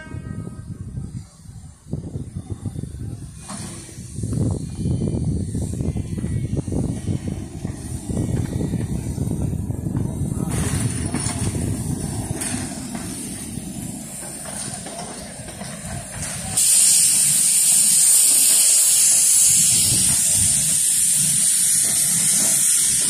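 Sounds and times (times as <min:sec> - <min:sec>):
steam hissing: 0:00.1 - 0:23.0.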